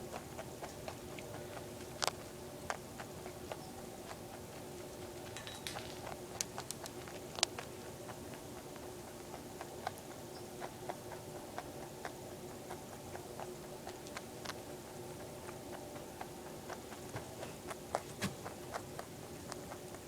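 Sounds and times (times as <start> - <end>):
rabbit crunching dry cereal: 0.0 - 20.0.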